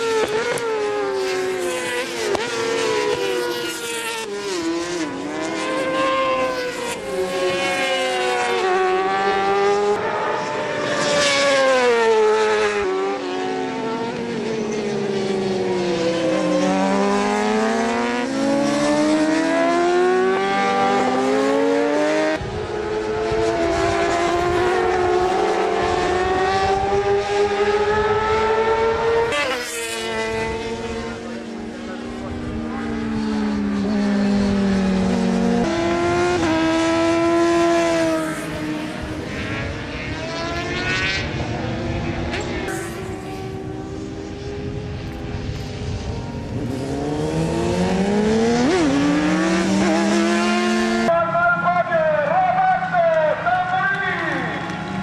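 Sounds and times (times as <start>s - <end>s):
racing motorcycle engines revving: 0.0s - 55.0s.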